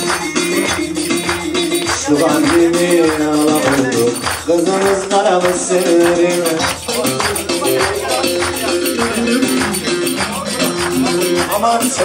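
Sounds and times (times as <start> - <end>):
folk dance melody: 0.0 - 12.0
rhythmic percussion beat: 0.0 - 12.0.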